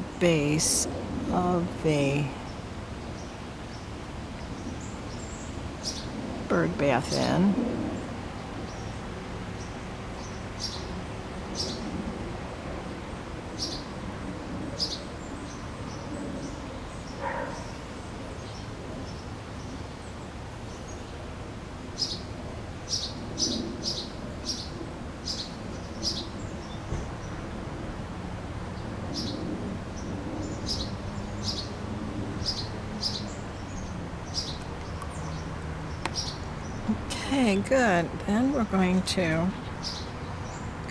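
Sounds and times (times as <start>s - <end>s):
small birds chirping: 0.0s - 11.9s, 13.5s - 13.9s, 14.7s - 21.3s, 22.0s - 27.5s, 28.7s - 31.8s, 32.4s - 40.9s.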